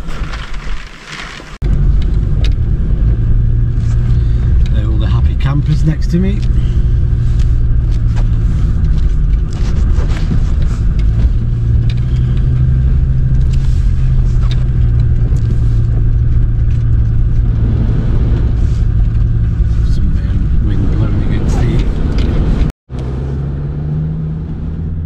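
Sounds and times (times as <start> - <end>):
tyres rumbling on gravel: 0.0 - 22.7
car engine hum: 1.6 - 25.0.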